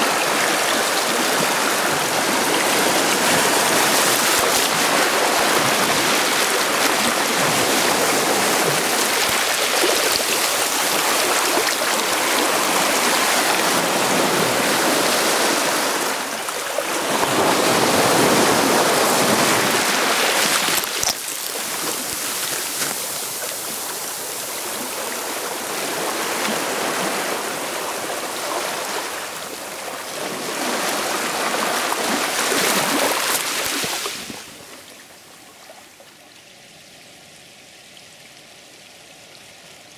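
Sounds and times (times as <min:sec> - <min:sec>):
sea waves breaking: 0:00.0 - 0:34.8.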